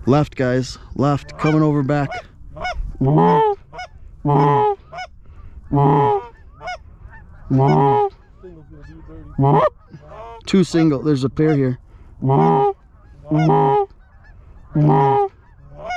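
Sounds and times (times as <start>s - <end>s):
goose clucking: 1.0s - 15.9s
goose honking: 1.0s - 15.9s.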